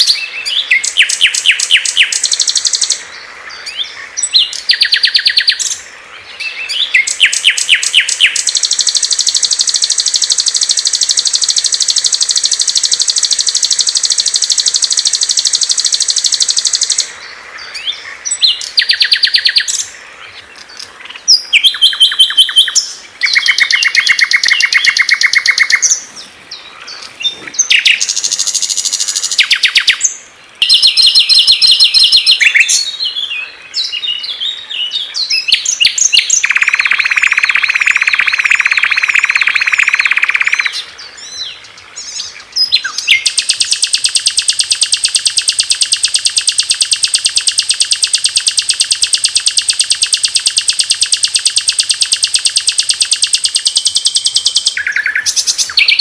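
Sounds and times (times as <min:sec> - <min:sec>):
songbirds trilling and chattering: 0:00.0 - 0:56.0.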